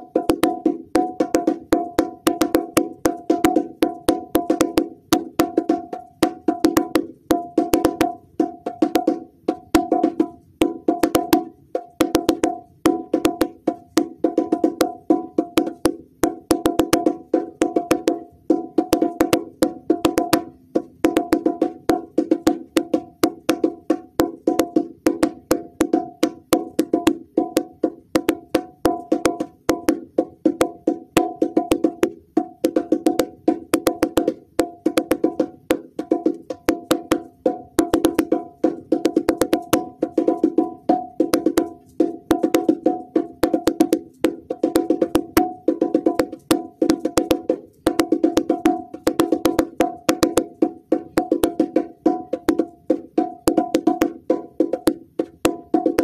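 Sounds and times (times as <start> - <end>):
bongo drums played by hand: 0.0 - 56.0.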